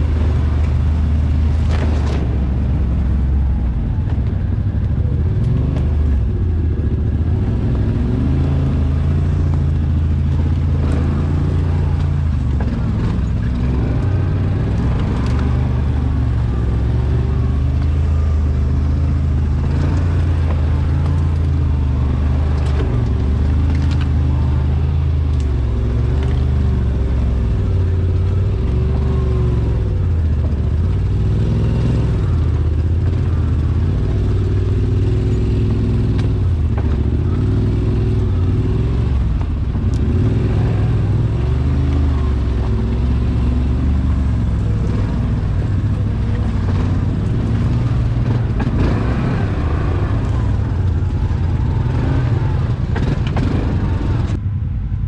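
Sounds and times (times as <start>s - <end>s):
atv engine running at low revs: 0.0s - 55.0s.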